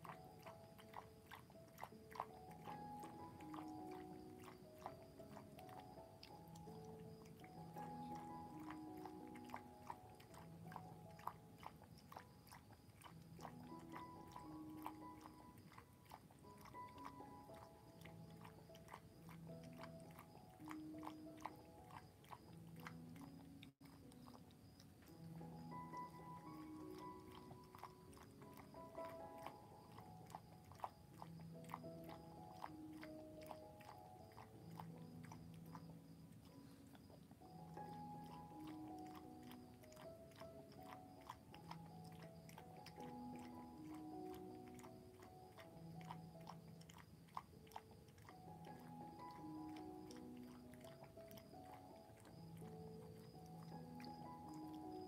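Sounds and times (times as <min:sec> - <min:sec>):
dog chewing from bowl: 0:00.0 - 0:55.0
soft background music: 0:00.0 - 0:55.0.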